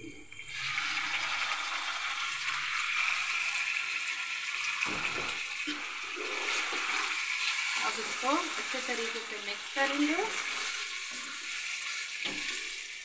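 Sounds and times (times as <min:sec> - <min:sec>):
chicken sizzling in oil: 0:00.4 - 0:13.0.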